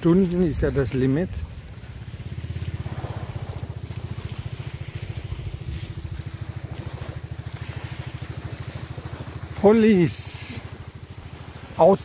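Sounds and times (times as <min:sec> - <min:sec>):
small engine puttering: 0:00.4 - 0:11.9.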